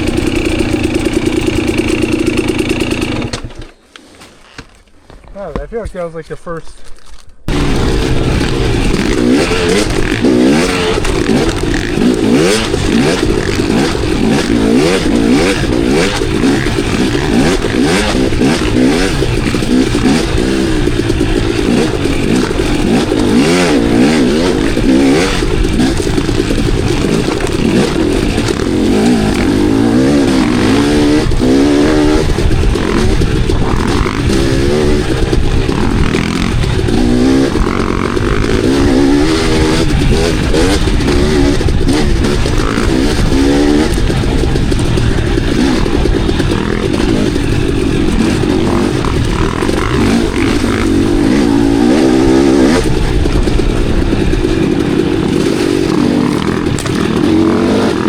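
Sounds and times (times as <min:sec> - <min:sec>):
dirt bike engine revving: 0:00.0 - 0:03.8, 0:07.5 - 0:58.0
bike clattering over rough ground: 0:00.0 - 0:06.1, 0:06.7 - 0:58.0.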